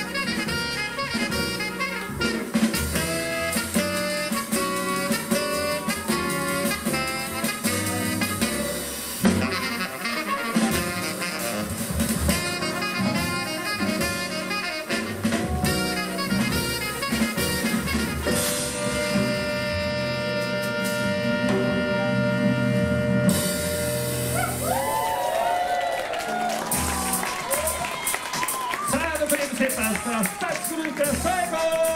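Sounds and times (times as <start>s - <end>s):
swing dance music: 0.0s - 25.4s, 26.1s - 31.9s.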